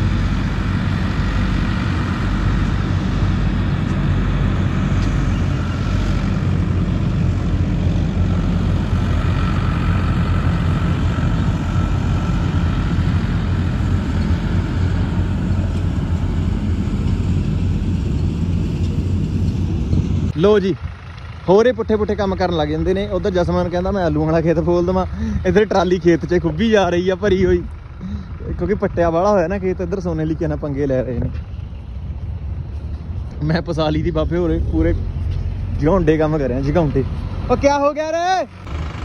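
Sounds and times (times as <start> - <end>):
diesel tractor engines running: 0.0 - 39.0.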